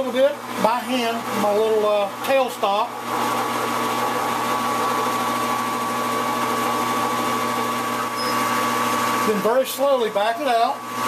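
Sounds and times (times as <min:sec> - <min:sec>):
metal lathe motor hum: 0:00.0 - 0:11.0.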